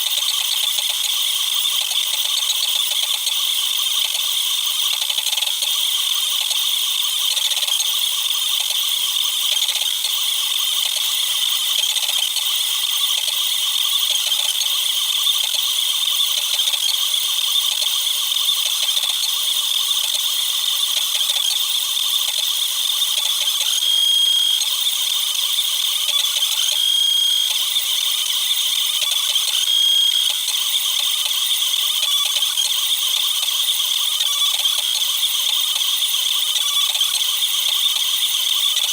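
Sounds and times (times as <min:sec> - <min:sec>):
printer motors rattling: 0:00.0 - 0:38.9.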